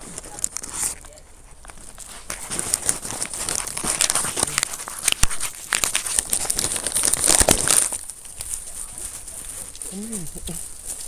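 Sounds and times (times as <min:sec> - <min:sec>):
rustling and crinkling handling: 0:00.0 - 0:11.0.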